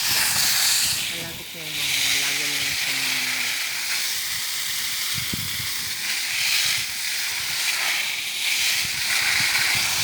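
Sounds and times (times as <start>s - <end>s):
water spraying from garden hose: 0.0s - 10.0s.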